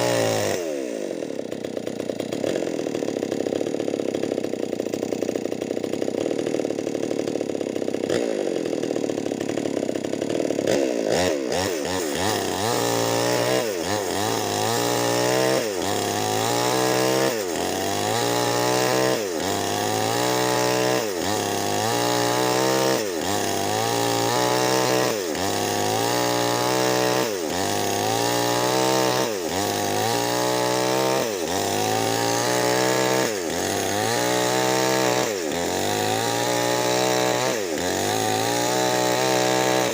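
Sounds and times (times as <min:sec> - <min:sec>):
chainsaw ripping wood: 0:00.0 - 0:39.9.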